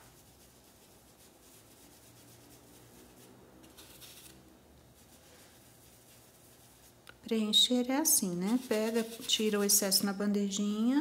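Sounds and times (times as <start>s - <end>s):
brush rasping on paint tray: 0.0s - 7.0s, 7.6s - 10.0s
paintbrush scratchy rubbing: 0.0s - 10.1s.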